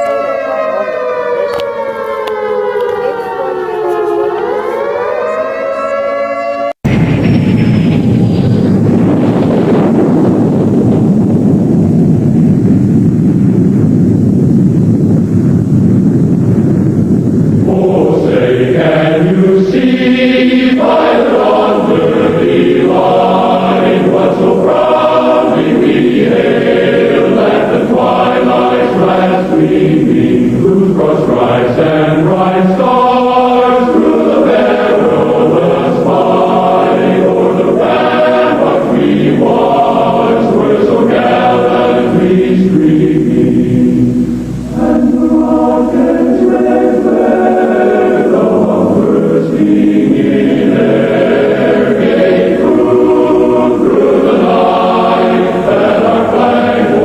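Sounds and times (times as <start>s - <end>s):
choir singing held chords: 0.0s - 8.0s, 16.8s - 57.0s.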